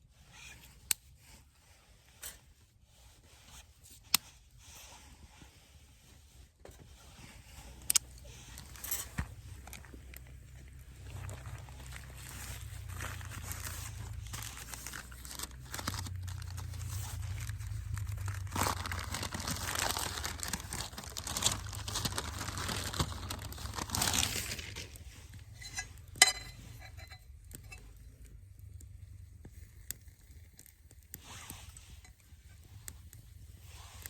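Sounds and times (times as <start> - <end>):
crinkly material rustling: 2.2 - 34.0.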